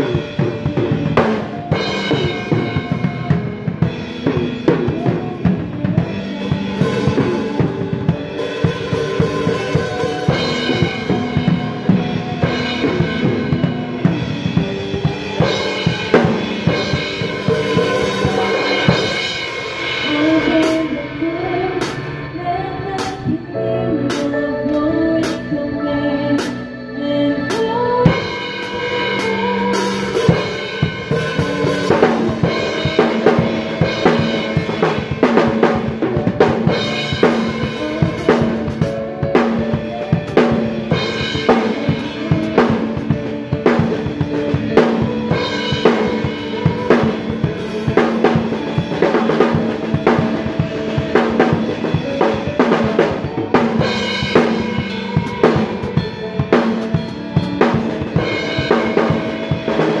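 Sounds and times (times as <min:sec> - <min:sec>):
drum kit beat with cymbals: 0:00.0 - 0:25.7, 0:26.3 - 1:00.0
live band chords: 0:00.0 - 1:00.0.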